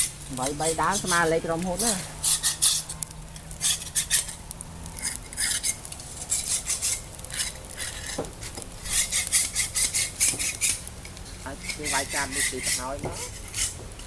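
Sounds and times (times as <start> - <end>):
metal blade scraping grill wires: 0.0 - 14.0.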